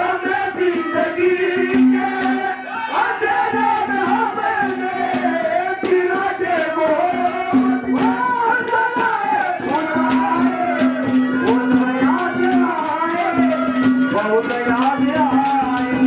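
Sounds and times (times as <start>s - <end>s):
tabla drum strikes: 0.3s - 2.6s, 3.2s - 16.0s.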